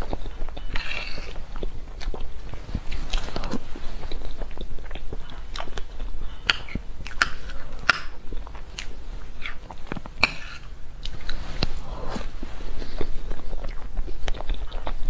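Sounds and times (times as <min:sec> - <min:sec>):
wet smacking and chewing: 0:00.0 - 0:15.0.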